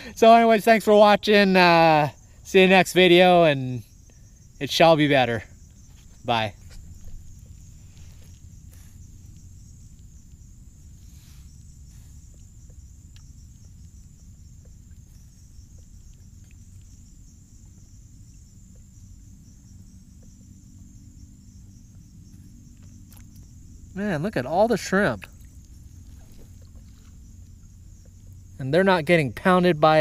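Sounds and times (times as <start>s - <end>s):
continuous low rumble: 0.0s - 30.0s
night insects trilling: 0.0s - 30.0s.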